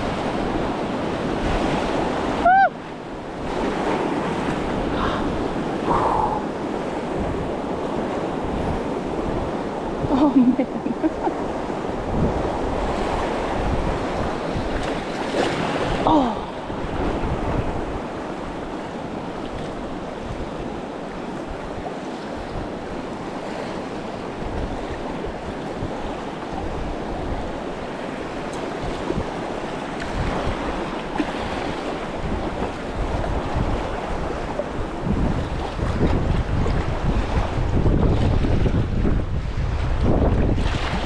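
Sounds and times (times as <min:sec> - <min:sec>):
river water rushing: 0:00.0 - 0:35.1
wind buffeting microphone: 0:00.0 - 0:41.0.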